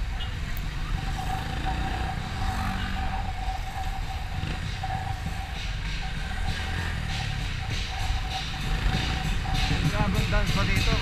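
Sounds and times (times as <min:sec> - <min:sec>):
motorcycle engine rumble: 0:00.0 - 0:11.0
steady high tone: 0:00.0 - 0:11.0.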